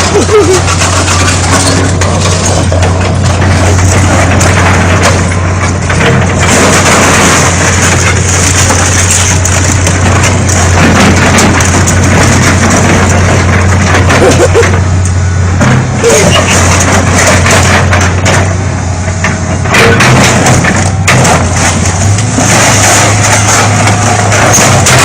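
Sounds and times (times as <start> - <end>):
excavator diesel engine running: 0.0 - 25.0
metal crunching and cracking: 0.0 - 25.0.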